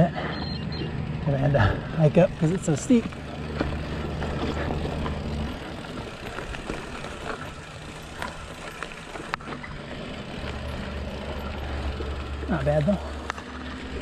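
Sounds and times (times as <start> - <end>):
bike tyre and trail noise: 0.0 - 14.0
bike clicks and rattles: 1.9 - 14.0.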